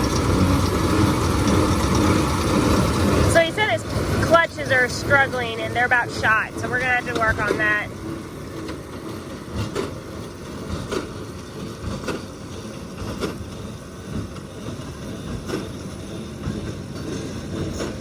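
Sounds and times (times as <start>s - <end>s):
tractor and baler running: 0.0s - 18.0s.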